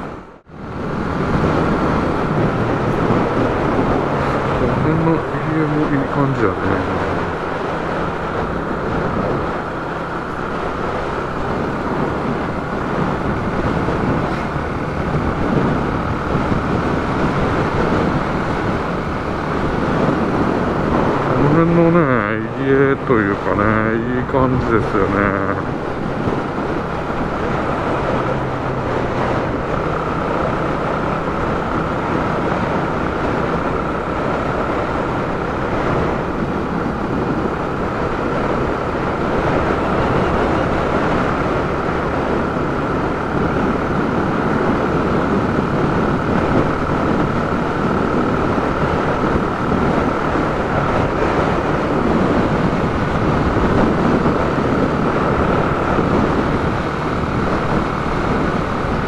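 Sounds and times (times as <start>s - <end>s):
motorcycle engine cruising: 0.0s - 59.0s
wind on microphone: 0.0s - 59.0s.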